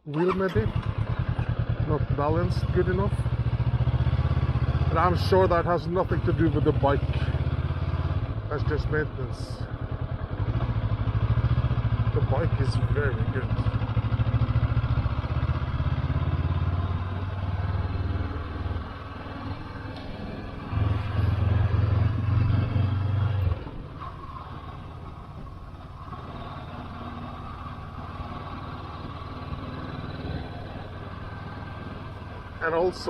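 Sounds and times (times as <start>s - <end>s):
motorcycle engine accelerating: 0.1s - 33.0s.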